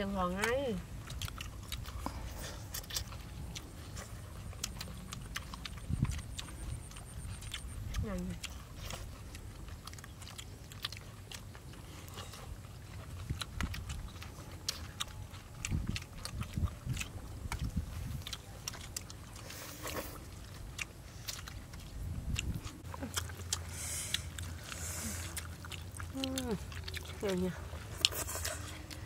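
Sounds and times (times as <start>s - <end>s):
food crunching: 0.0s - 29.0s
people chewing food: 0.0s - 29.0s.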